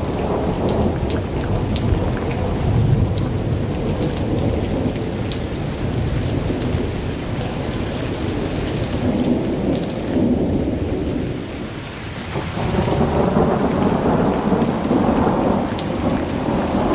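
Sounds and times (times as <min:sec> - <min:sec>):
steady rain: 0:00.0 - 0:16.9
thunder rumbling: 0:00.0 - 0:16.9.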